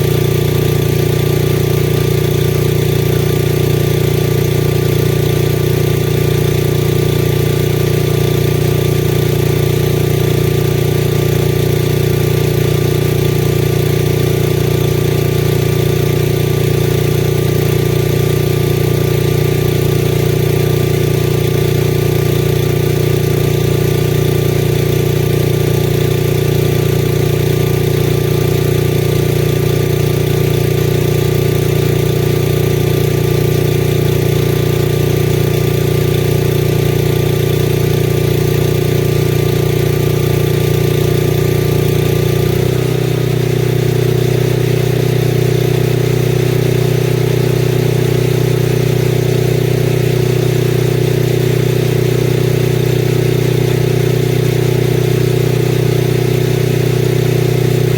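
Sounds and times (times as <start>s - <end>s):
welder engine running: 0.0s - 57.9s.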